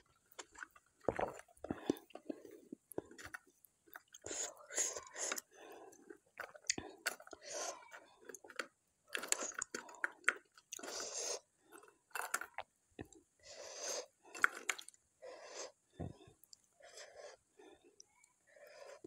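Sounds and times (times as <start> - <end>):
wet chewing and mouth sounds: 0.0 - 17.4.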